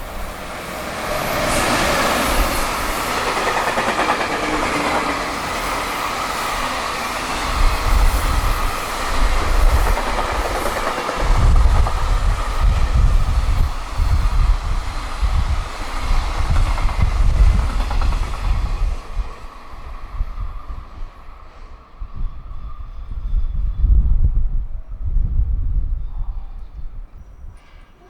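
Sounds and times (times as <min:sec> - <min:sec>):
freight train passing at speed: 0:00.0 - 0:26.4
wind buffeting microphone: 0:00.0 - 0:27.9.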